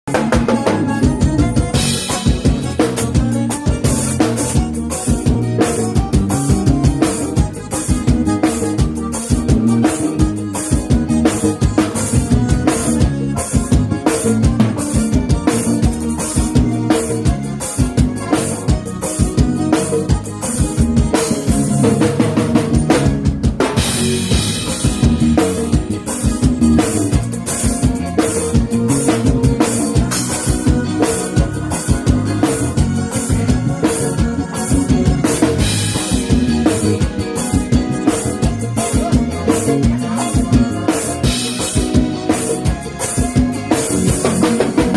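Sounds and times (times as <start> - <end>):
drum kit playing a beat: 0.0 - 44.9
live band playing: 0.0 - 44.9.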